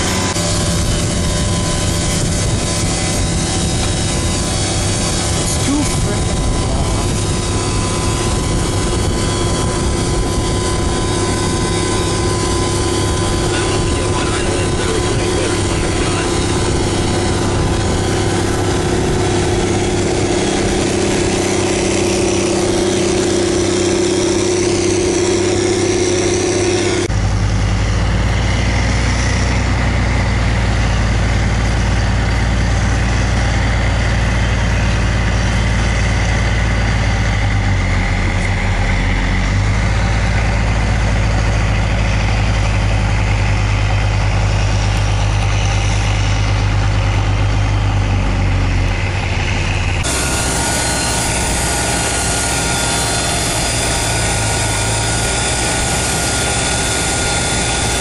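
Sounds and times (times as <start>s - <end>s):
diesel tractor engine running: 0.0s - 58.0s
low hum: 0.0s - 58.0s
steady whine: 0.0s - 58.0s.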